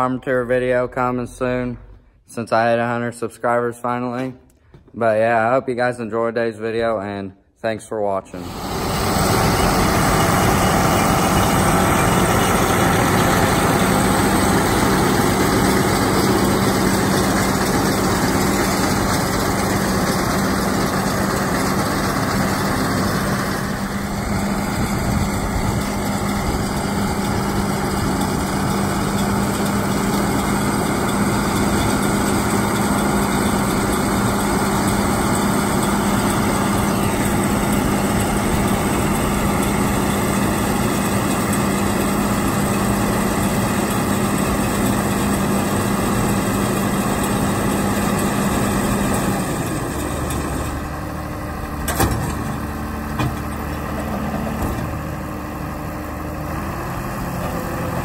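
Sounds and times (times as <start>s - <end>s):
tractor diesel engine running: 8.4s - 58.0s.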